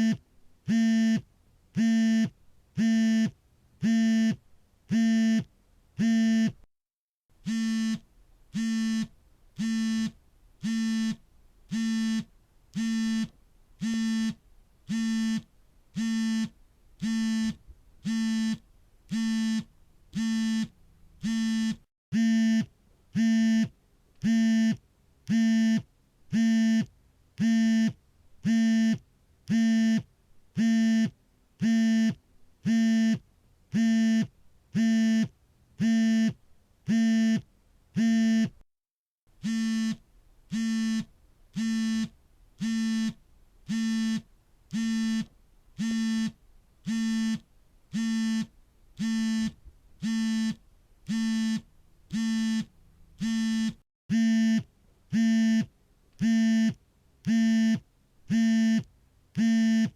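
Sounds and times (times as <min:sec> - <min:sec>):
smartphone vibrating buzzes: 0:00.0 - 0:06.6, 0:07.4 - 0:37.4, 0:38.0 - 0:38.6, 0:39.4 - 0:59.9.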